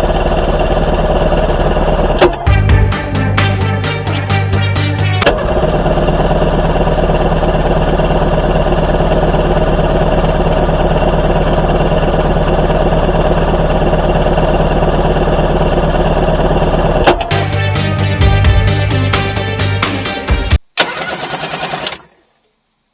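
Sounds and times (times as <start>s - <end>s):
motor running: 0.0s - 22.1s.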